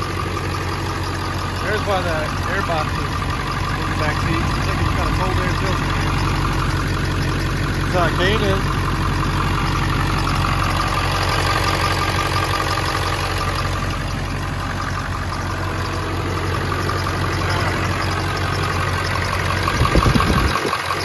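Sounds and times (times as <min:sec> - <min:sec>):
diesel engine idling clatter: 0:00.0 - 0:21.0.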